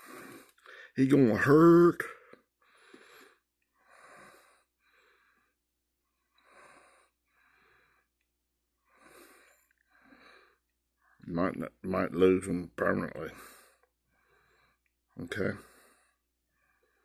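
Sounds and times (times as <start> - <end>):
faint breathing: 0.0 - 1.0, 2.0 - 11.3, 13.3 - 17.0.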